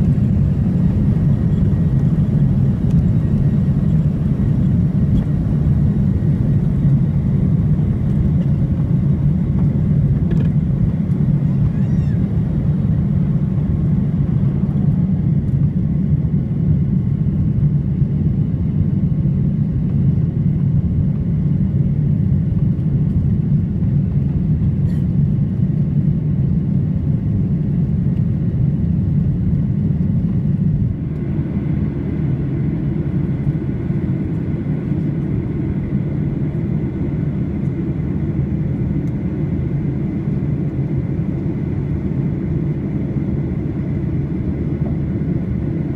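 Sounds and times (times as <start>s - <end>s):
airplane cabin engine rumble: 0.0s - 45.9s.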